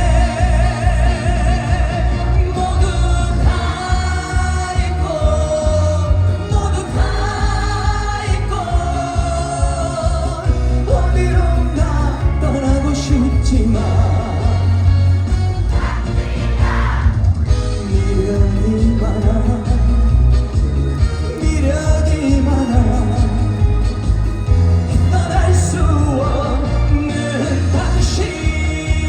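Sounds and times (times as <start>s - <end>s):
man singing with vibrato: 0.0s - 16.9s, 17.5s - 29.0s
backing track with heavy bass: 0.0s - 29.0s.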